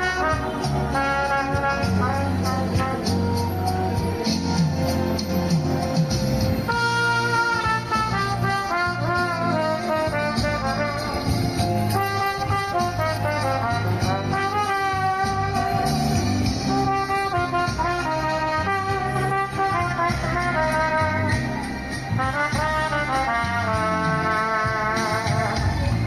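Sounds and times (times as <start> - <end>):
low accompaniment: 0.0 - 21.5
trumpet melody: 0.0 - 26.0.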